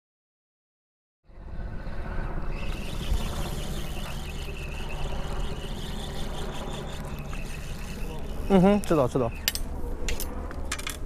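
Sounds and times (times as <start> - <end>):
faint high whine: 1.3 - 10.5.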